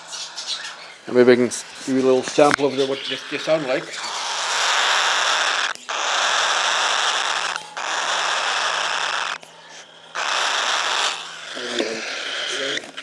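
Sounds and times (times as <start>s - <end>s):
chicks hissing begging calls: 0.0s - 13.0s.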